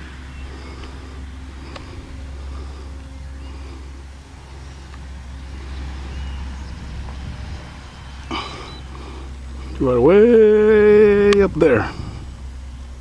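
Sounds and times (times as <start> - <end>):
model plane motor droning: 0.0 - 13.0
steady low rumble: 0.0 - 13.0.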